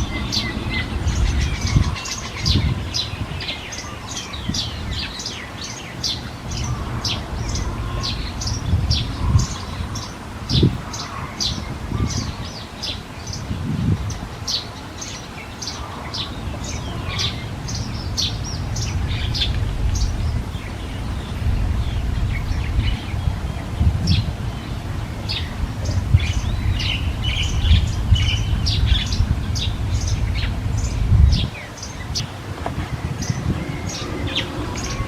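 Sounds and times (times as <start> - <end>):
steady low rumble: 0.0 - 3.5, 6.0 - 12.5, 16.3 - 35.0
small birds chirping: 0.0 - 35.0.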